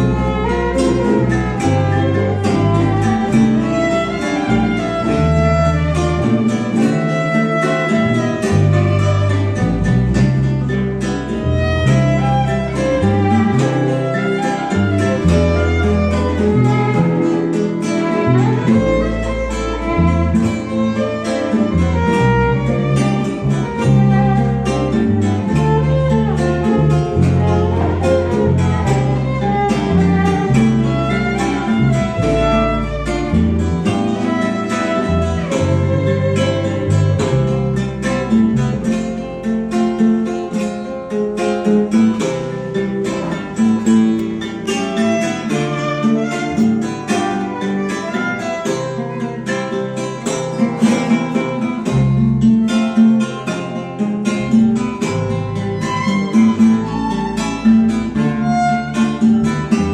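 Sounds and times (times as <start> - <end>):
violin melody: 0.0 - 39.6, 42.2 - 51.5, 55.0 - 59.9
bass line: 0.0 - 49.2, 50.1 - 59.9
strummed cuatros and guitar: 0.0 - 59.9.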